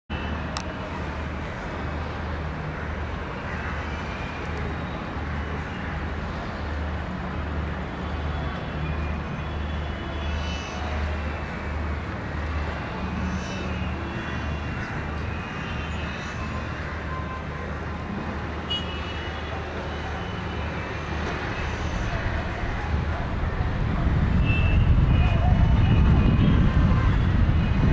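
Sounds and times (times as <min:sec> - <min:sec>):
outdoor city noise: 0:00.1 - 0:27.9.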